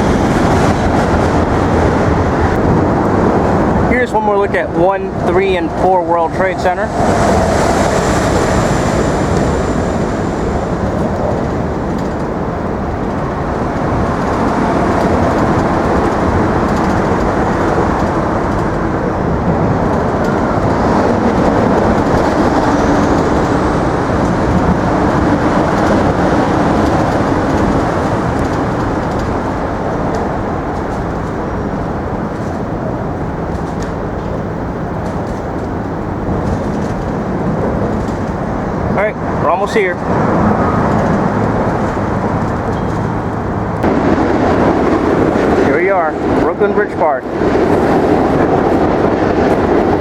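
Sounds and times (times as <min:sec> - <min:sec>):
heavy road traffic roar: 0:00.0 - 0:50.0
faint engine tones: 0:00.7 - 0:48.8.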